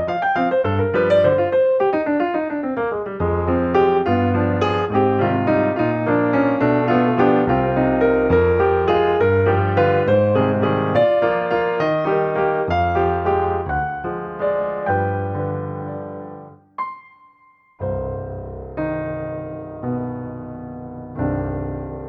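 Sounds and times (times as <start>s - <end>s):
lively piano music: 0.0s - 22.0s.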